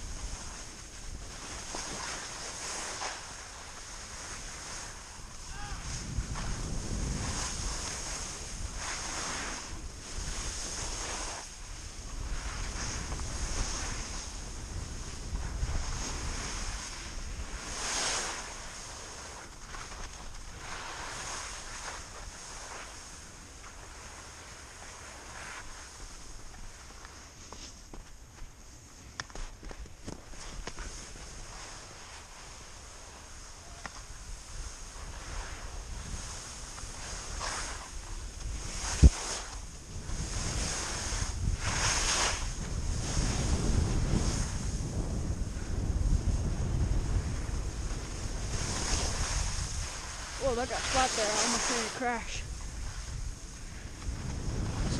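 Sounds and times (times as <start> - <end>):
wind rushing over microphone: 0.0 - 26.6, 29.5 - 54.9
skis hissing on snow: 0.0 - 28.0, 30.3 - 54.9.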